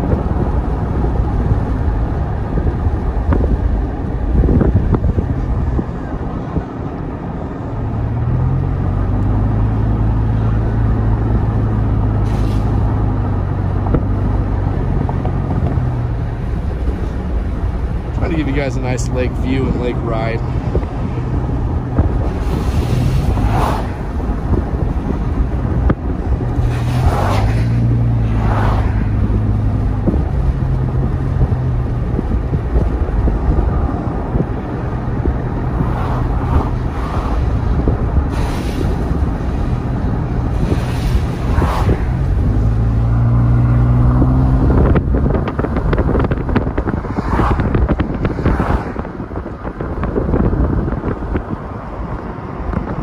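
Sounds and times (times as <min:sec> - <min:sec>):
car road and wind noise: 0:00.0 - 0:53.0
vehicles passing whooshes: 0:00.0 - 0:53.0.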